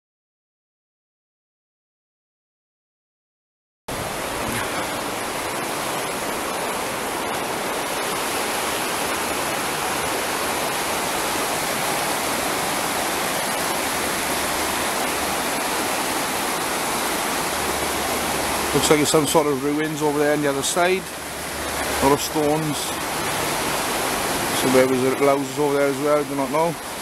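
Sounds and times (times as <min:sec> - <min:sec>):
river water rushing: 0:03.9 - 0:27.0.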